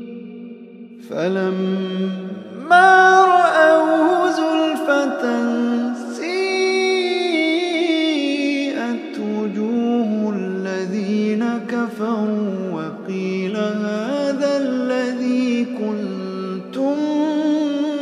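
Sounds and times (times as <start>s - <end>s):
man chanting: 0.0s - 18.0s.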